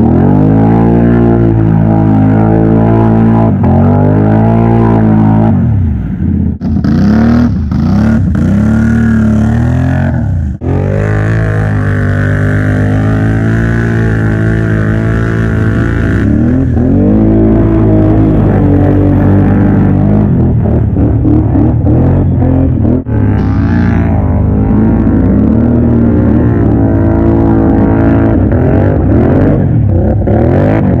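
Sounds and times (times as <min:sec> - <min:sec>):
atv engine revving: 0:00.0 - 0:05.8, 0:06.6 - 0:31.0.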